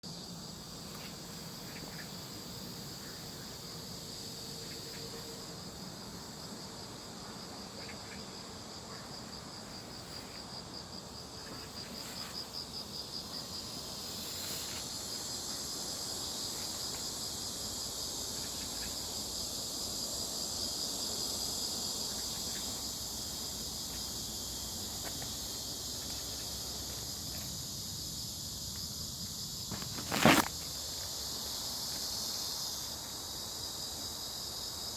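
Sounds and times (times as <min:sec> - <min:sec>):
insects chirring in chorus: 0:00.0 - 0:34.9
pulsing insect trill: 0:00.0 - 0:34.9.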